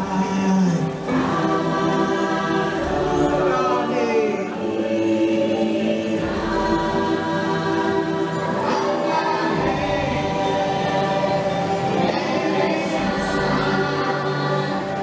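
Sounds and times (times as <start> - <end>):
choir singing: 0.0 - 15.0
music: 0.0 - 15.0.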